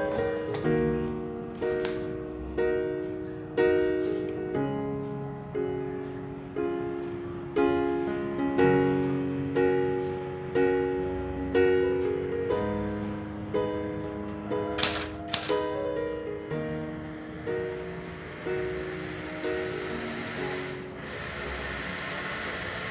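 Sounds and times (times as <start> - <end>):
gentle piano chords: 0.0 - 22.9.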